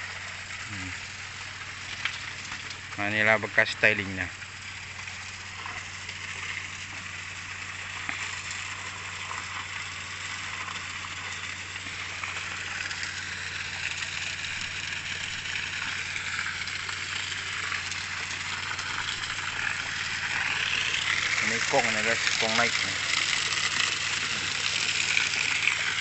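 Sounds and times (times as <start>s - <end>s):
engine humming: 0.0s - 26.0s
water and sand slurry hissing: 0.0s - 26.0s.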